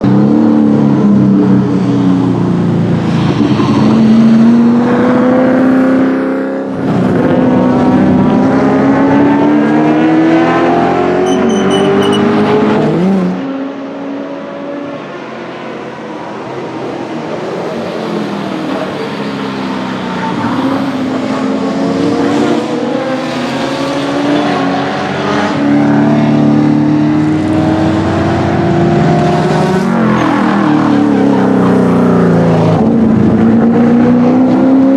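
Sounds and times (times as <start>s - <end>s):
racing engine accelerating: 0.1s - 15.0s, 16.6s - 34.9s.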